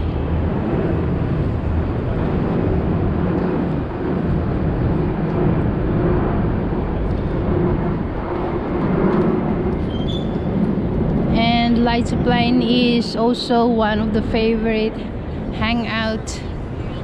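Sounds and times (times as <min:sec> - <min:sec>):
street traffic: 0:00.0 - 0:17.0
wind blowing on microphone: 0:00.0 - 0:17.0.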